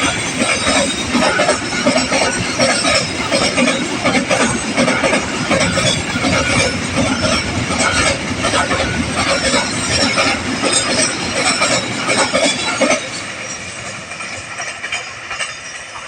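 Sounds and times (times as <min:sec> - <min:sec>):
train wheels rumbling over rails: 0:00.0 - 0:16.0.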